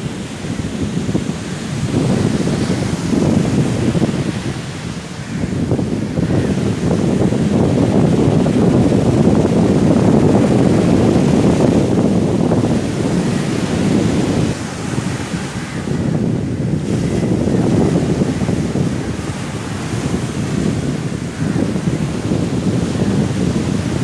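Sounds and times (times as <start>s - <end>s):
strong wind: 0.0s - 24.0s
waves surging onto beach: 0.0s - 24.0s.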